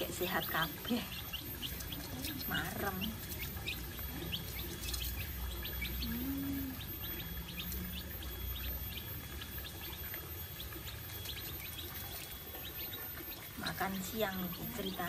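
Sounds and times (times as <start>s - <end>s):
chicks peeping: 0.0s - 15.0s
low steady rumble: 0.0s - 15.0s.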